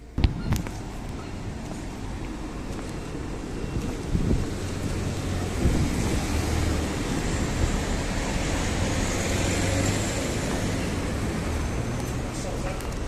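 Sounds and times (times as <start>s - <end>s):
street noise: 0.0s - 13.0s
vehicle running nearby: 0.7s - 13.0s.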